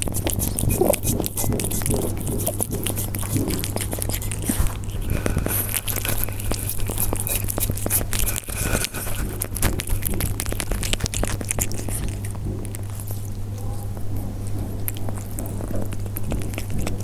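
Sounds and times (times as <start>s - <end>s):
cats chewing and crunching: 0.0s - 17.0s
steady low hum: 0.0s - 17.0s.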